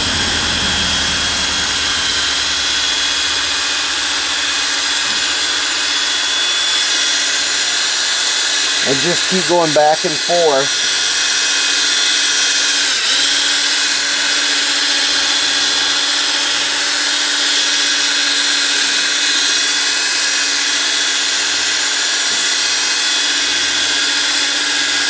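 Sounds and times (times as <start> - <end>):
electric drill running: 0.0 - 25.0.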